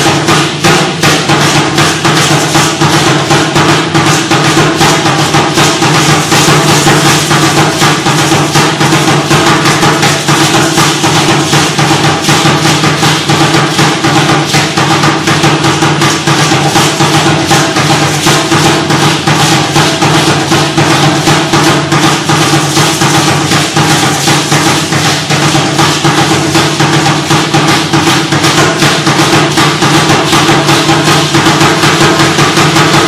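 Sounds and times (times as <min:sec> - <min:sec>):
hand drum beating: 0:00.0 - 0:33.0.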